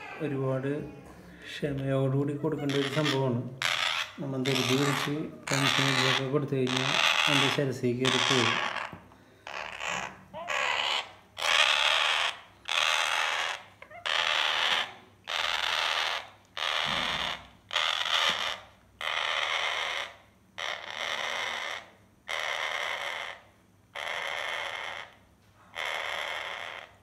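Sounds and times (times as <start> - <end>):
parrot chick rasping: 2.2 - 27.0.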